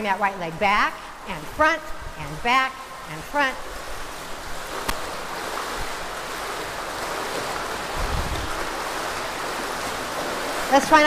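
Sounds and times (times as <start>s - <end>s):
pool water sloshing and splashing: 0.0s - 11.0s.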